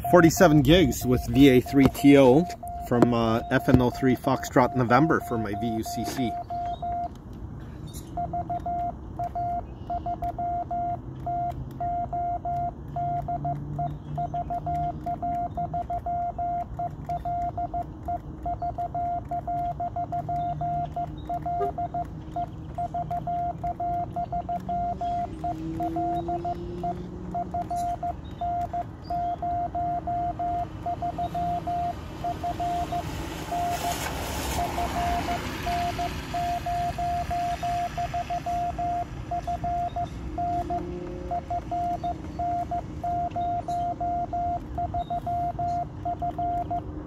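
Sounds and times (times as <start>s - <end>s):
morse code beeps: 0.0s - 7.2s, 8.0s - 47.0s.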